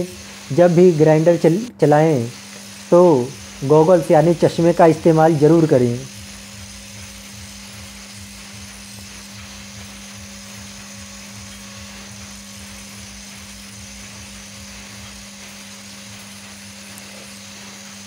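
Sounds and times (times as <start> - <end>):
angle grinder grinding: 0.0 - 18.0.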